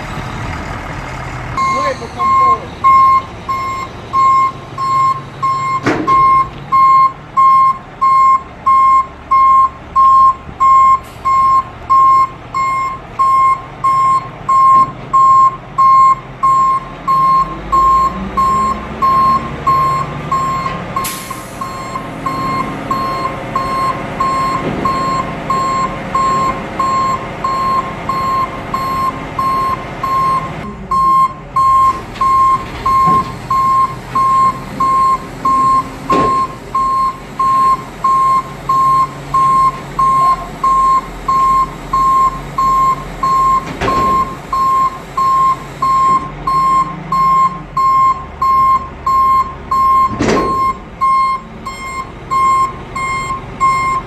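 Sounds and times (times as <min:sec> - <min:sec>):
diesel engine running: 0:00.0 - 0:54.0
truck backup alarm beeping: 0:01.6 - 0:54.0.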